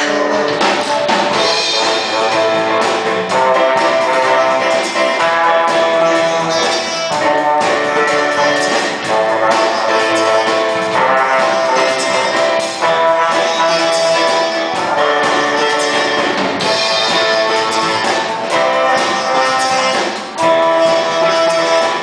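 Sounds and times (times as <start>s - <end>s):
guitar chords: 0.0s - 22.0s.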